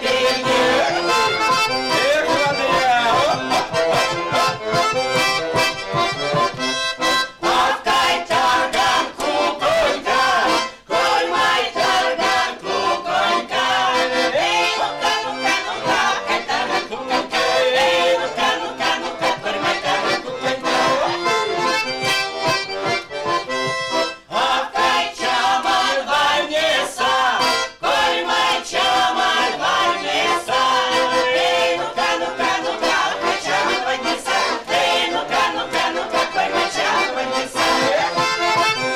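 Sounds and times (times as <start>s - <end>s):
accordion: 0.0s - 38.9s
women singing folk songs: 0.0s - 38.9s.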